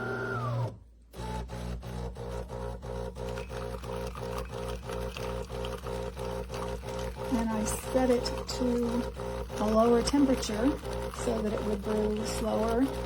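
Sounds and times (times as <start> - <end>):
pump buzzing hum: 0.0 - 13.0.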